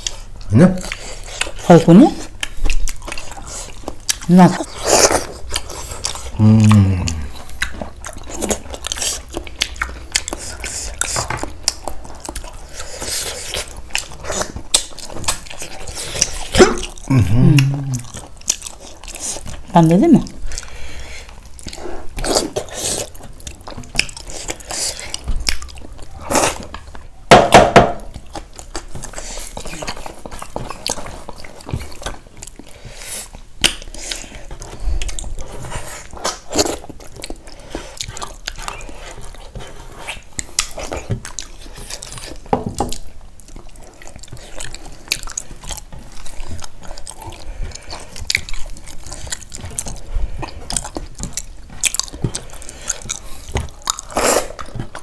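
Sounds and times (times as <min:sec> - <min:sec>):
chewing and biting: 0:00.0 - 0:27.3, 0:28.0 - 0:55.0.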